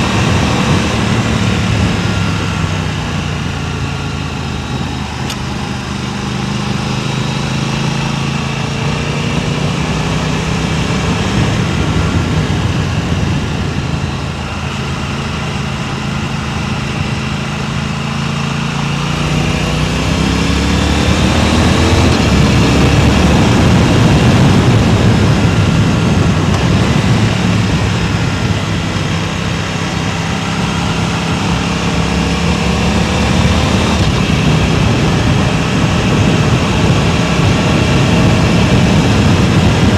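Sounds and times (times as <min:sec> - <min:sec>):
vehicle engine running: 0:00.0 - 0:39.9
wind rushing over microphone: 0:00.0 - 0:39.9.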